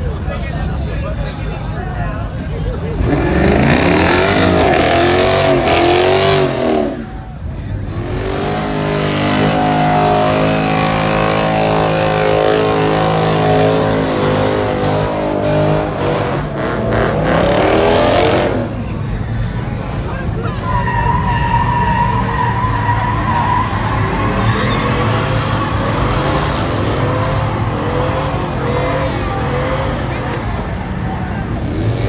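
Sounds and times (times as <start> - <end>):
truck engine revving: 2.9 - 32.0.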